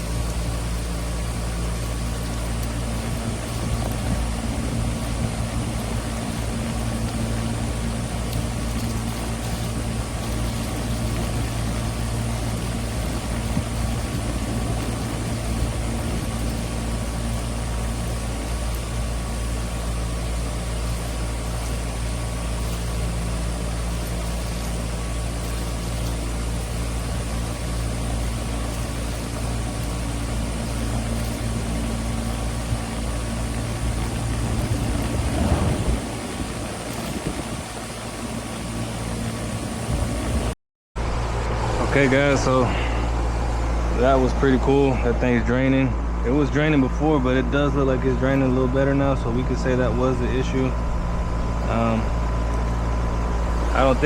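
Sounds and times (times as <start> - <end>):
air conditioner unit humming: 0.0 - 54.0.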